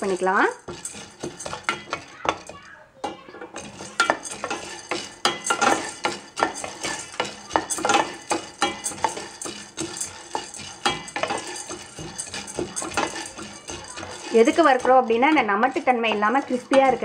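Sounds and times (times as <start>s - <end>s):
chickpeas scraping in metal pan: 0.0s - 17.0s.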